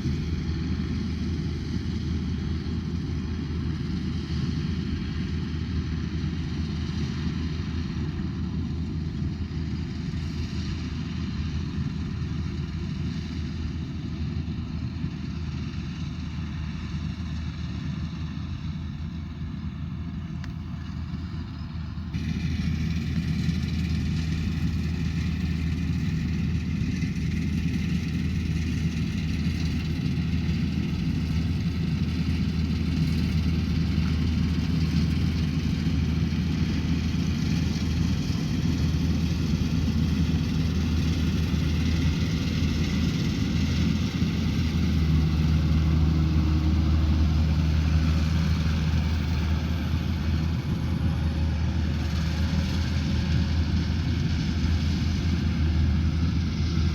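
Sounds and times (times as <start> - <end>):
harvester engine droning: 0.0 - 56.9.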